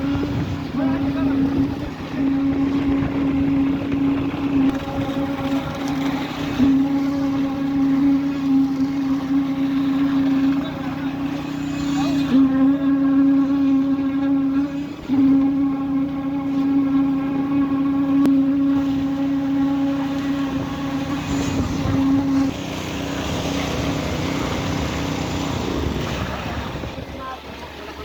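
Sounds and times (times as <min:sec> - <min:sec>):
rough rushing noise: 0:00.0 - 0:27.3
machinery high hum: 0:00.0 - 0:28.0.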